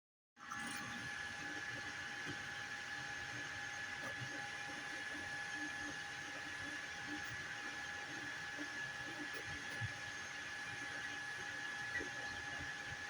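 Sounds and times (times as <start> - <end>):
printer high whine: 0.4 - 13.0.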